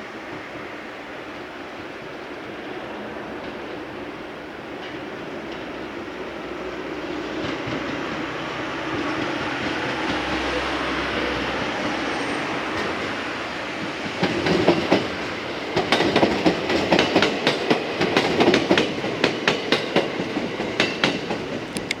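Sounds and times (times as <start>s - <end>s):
train rumbling: 0.0s - 22.0s
train wheels clickety-clack: 3.3s - 22.0s.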